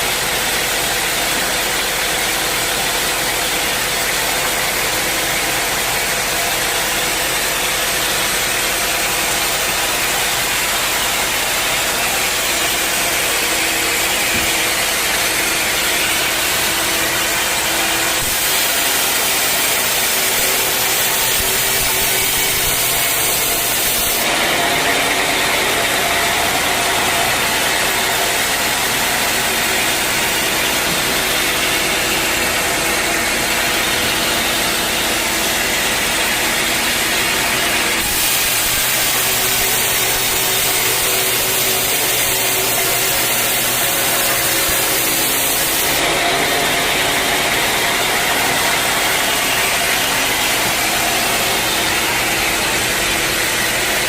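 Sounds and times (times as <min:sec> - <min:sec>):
sawmill saw cutting log: 0:00.0 - 0:54.0.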